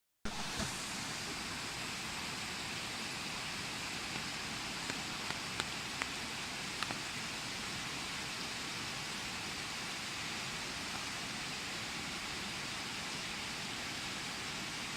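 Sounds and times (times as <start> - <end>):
stream rushing over rocks: 0.3 - 14.9.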